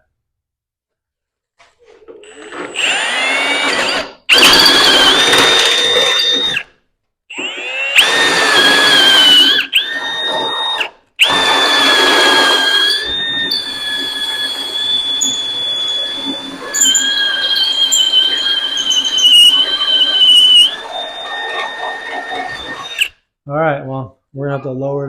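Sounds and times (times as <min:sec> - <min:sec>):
electric drill drilling steel: 0:02.2 - 0:06.7, 0:07.3 - 0:23.1.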